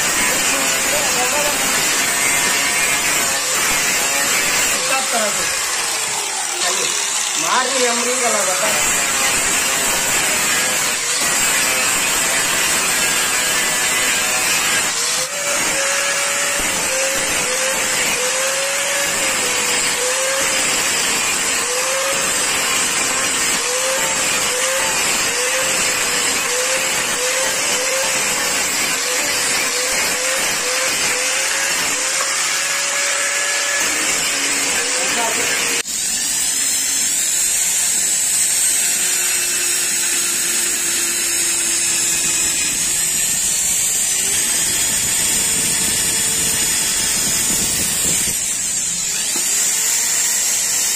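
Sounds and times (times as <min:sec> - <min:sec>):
angle grinder grinding wood: 0:00.0 - 0:50.9.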